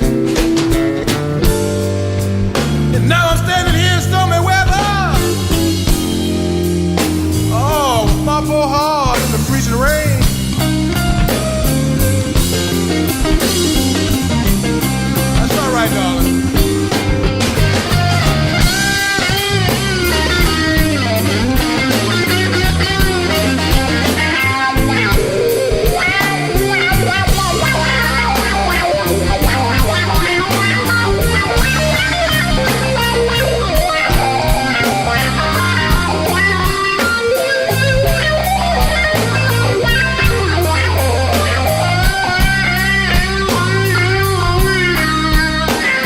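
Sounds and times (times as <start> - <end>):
bass line: 0.0 - 46.0
lead guitar bending notes: 0.0 - 46.0
steady drum beat: 0.0 - 46.0.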